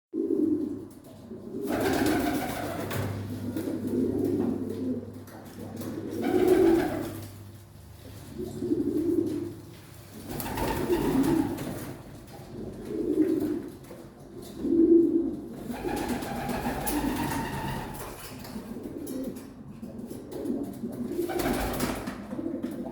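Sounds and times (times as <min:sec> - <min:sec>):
pigeons cooing: 0:00.2 - 0:22.9.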